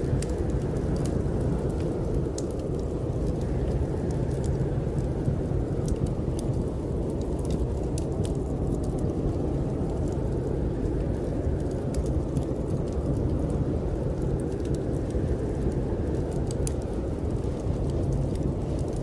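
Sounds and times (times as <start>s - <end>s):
wind blowing low rumble: 0.0s - 19.0s
wood fire crackling: 0.0s - 19.0s.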